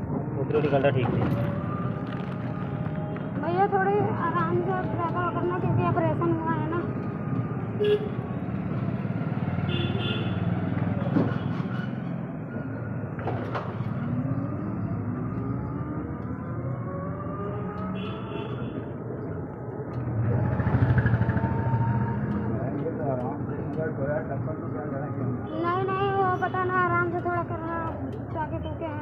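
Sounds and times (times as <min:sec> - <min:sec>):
rickshaw engine rumbling and whining: 0:00.0 - 0:29.0.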